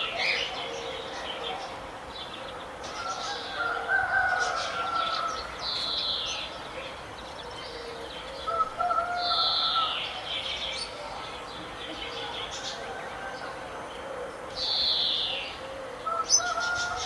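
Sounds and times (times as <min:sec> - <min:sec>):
birds calling and chirping: 0:00.0 - 0:17.0.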